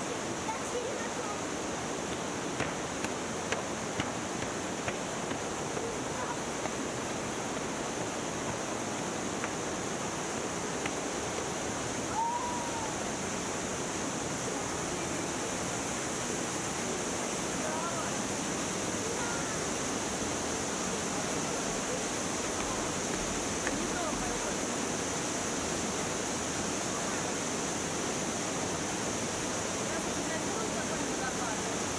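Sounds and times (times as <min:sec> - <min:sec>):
mountain stream and waterfall rushing: 0:00.0 - 0:31.9.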